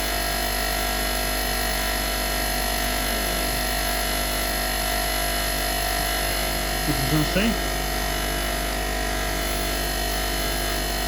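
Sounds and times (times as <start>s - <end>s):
electric wire brush humming: 0.0s - 11.0s.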